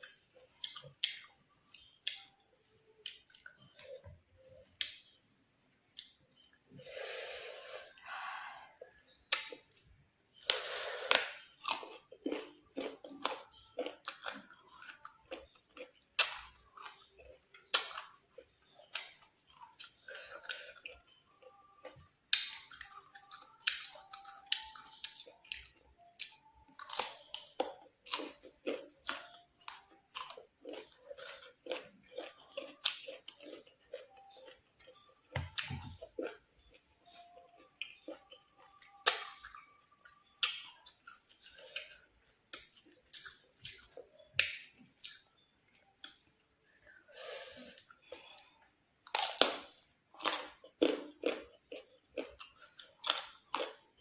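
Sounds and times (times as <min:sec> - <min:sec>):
chewing crunchy fruit: 0:09.1 - 0:54.0.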